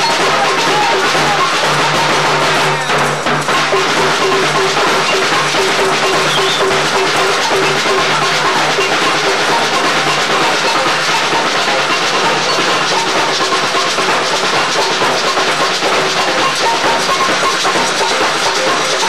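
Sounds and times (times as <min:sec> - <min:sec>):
drums and percussion: 0:00.0 - 0:19.0
samba band playing: 0:00.0 - 0:19.0.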